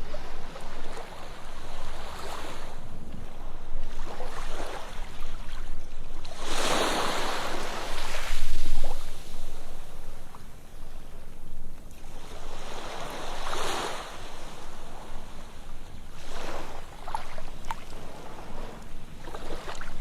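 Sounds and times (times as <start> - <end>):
ocean waves breaking on beach: 0.0 - 20.0.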